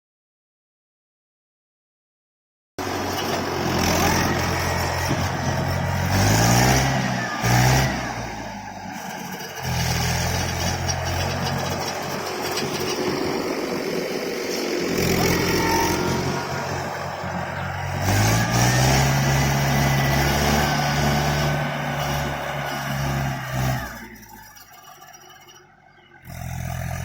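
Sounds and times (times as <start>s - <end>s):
tractor diesel engine revving: 2.8s - 27.0s.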